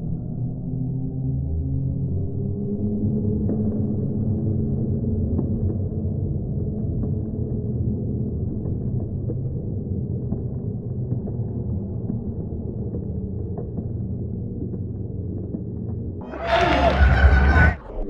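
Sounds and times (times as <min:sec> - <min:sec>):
deep slowed-down rumble: 0:00.0 - 0:18.0.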